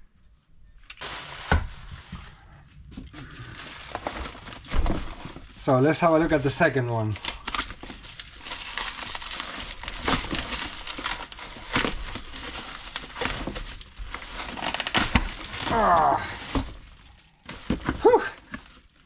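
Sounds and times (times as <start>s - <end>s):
packaging crinkling and rustling: 0.8s - 19.0s.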